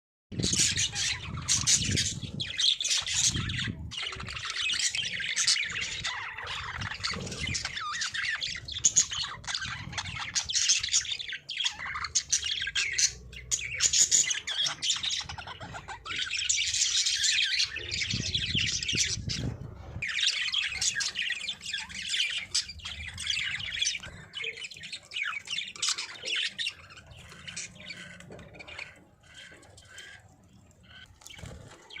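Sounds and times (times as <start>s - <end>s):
budgerigars chattering and chirping: 0.4s - 32.0s.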